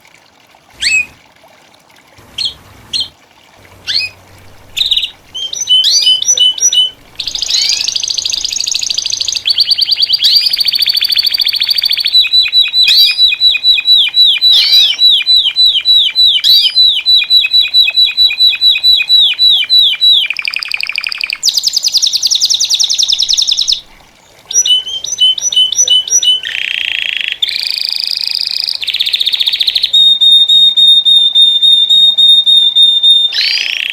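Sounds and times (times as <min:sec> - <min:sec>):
canaries singing: 0:00.8 - 0:01.2, 0:02.2 - 0:31.4, 0:32.4 - 0:33.9.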